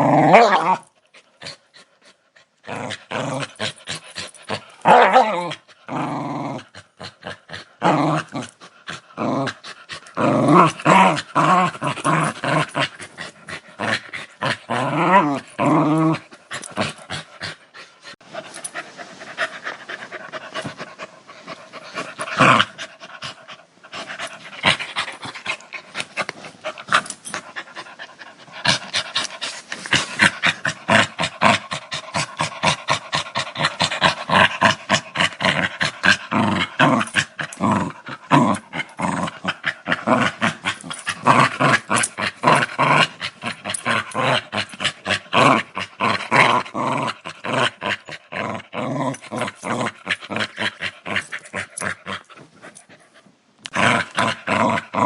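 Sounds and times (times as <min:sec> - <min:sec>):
dog growling: 0:00.0 - 0:18.8, 0:19.4 - 0:53.0, 0:53.6 - 0:55.0.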